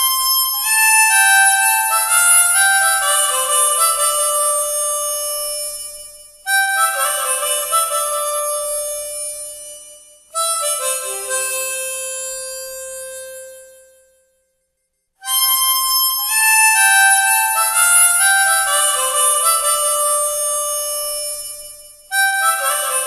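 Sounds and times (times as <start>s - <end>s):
harmonica playing runs: 0.0s - 13.8s, 15.2s - 23.0s.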